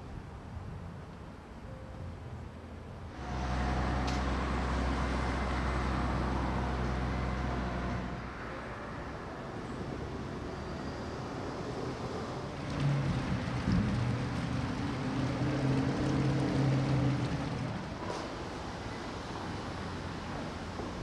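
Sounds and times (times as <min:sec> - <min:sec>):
traffic hum: 0:02.2 - 0:21.0
vehicle engine humming: 0:03.1 - 0:21.0.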